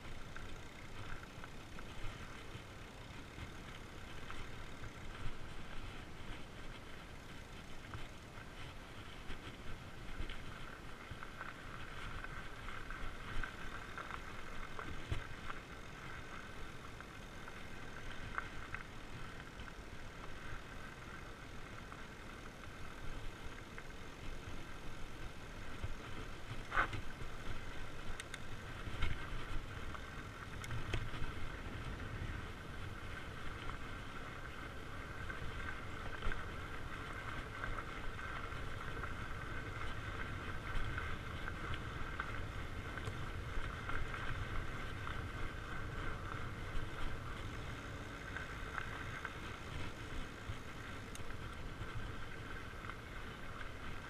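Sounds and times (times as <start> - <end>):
bike rattling over bumps: 0.0 - 54.0
bike tyres whirring on dirt: 0.0 - 54.0.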